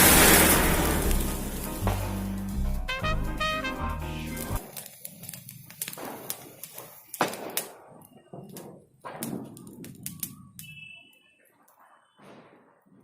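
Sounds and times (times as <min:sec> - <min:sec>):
firework crackles: 0:00.0 - 0:13.0.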